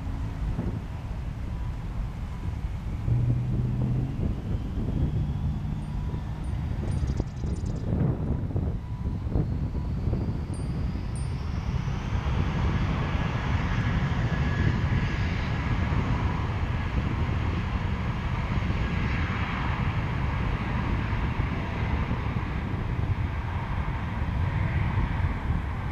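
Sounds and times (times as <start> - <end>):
jet airliner engines rumbling: 0.0 - 25.9.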